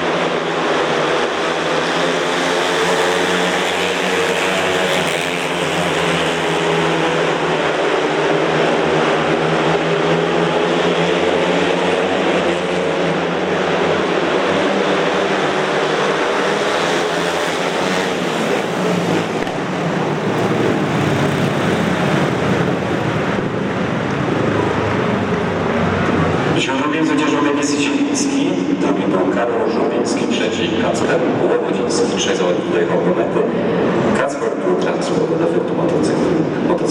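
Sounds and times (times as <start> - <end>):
motorcycle engines racing: 0.0 - 36.9.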